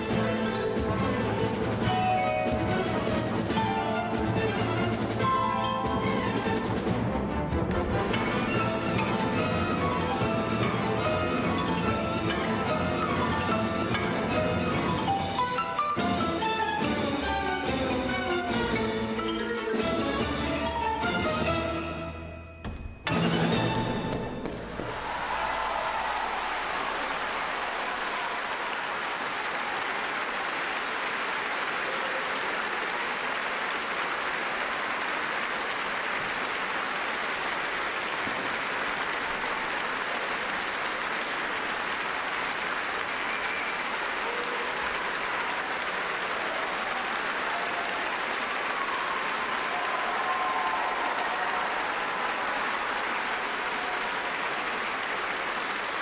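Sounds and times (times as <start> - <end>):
audience applauding: 0.0 - 15.8, 24.1 - 56.0.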